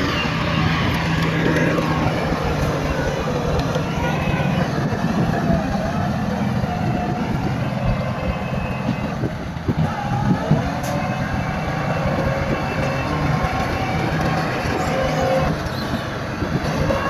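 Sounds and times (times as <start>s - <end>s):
bulldozer diesel engine: 0.0s - 17.0s
crawler tracks clanking: 0.0s - 17.0s.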